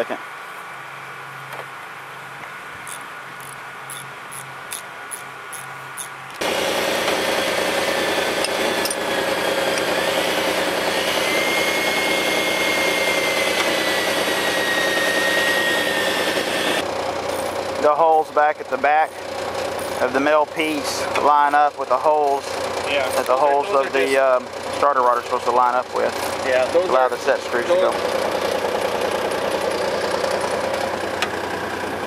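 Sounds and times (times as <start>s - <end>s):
large engine whining: 5.5s - 32.0s.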